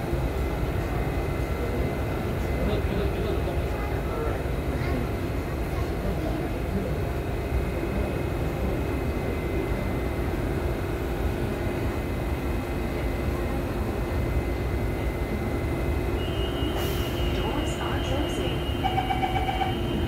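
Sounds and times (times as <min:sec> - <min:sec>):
metro train humming: 0:00.0 - 0:20.0.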